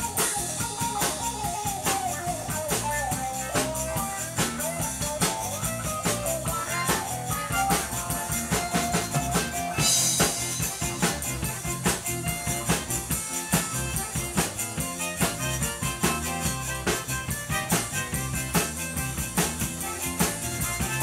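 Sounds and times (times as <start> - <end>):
live band playing instrumental: 0.0 - 21.0.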